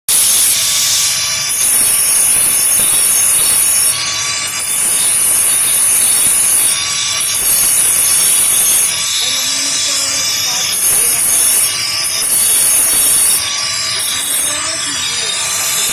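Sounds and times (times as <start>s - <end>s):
grinding stone squealing: 0.1s - 15.9s.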